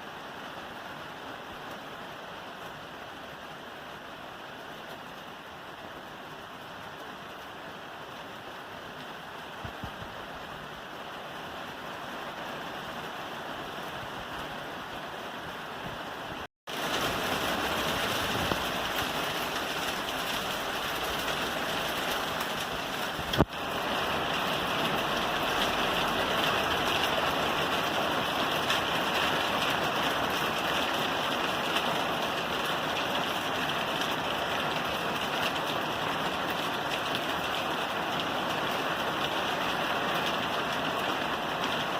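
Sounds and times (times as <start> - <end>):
rain falling on a roof: 0.0 - 41.9.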